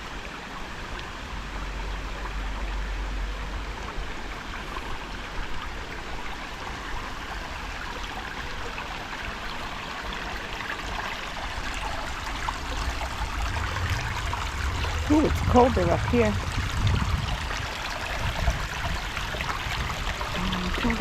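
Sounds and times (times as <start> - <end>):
creek water babbling over rocks: 0.0 - 21.0.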